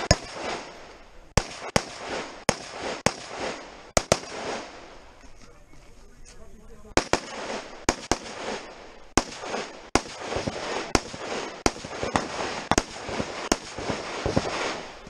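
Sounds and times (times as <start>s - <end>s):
rifle shots with echo: 0.0s - 5.0s, 6.9s - 15.0s.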